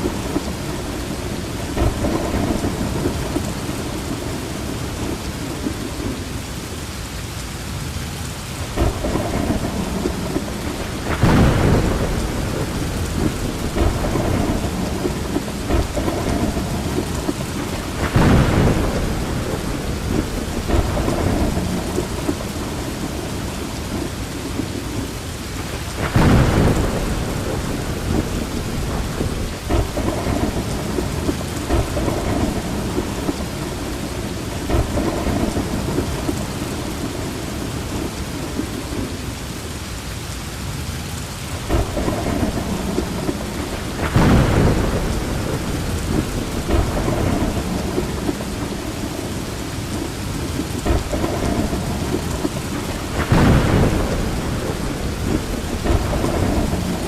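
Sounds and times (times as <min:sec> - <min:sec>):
rolling thunder: 0:00.0 - 0:06.7, 0:08.6 - 0:39.2, 0:41.5 - 0:57.0
steady rain: 0:00.0 - 0:57.0.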